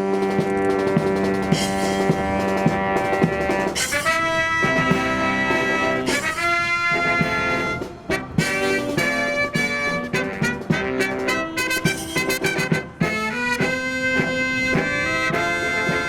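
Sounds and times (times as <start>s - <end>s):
brass band playing chords: 0.0s - 16.0s
steady drum beat: 0.0s - 16.0s.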